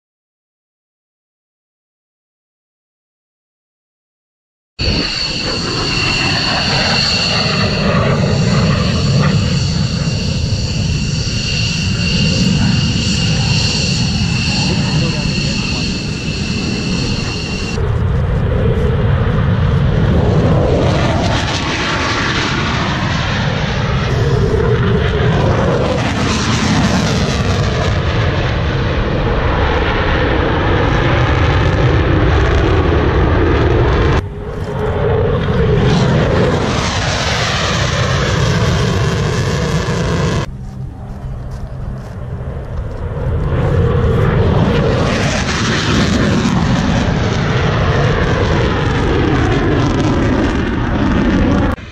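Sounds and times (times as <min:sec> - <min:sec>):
aircraft engine roar: 0:04.8 - 0:51.9.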